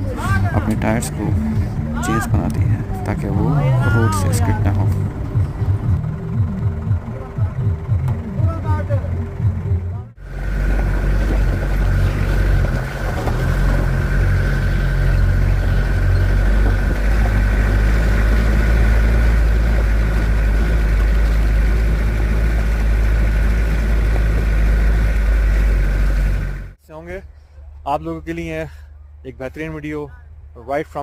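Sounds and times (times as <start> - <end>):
road noise: 0.0 - 31.0
vehicle engine rumble: 0.0 - 31.0.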